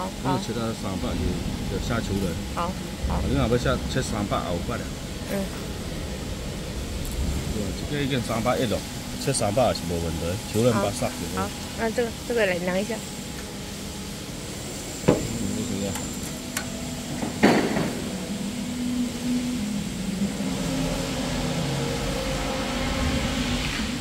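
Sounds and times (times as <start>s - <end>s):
factory machinery hum: 0.0s - 24.0s.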